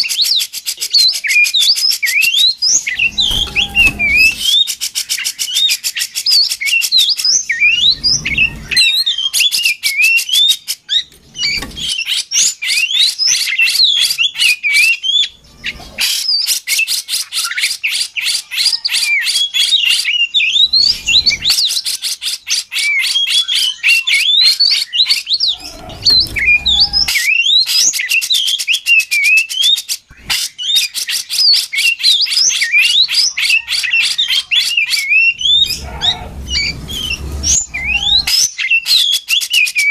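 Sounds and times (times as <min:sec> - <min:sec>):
rapid trilled bird chatter: 0:00.0 - 0:28.7, 0:29.6 - 0:39.8
bird whistled song: 0:00.0 - 0:39.9.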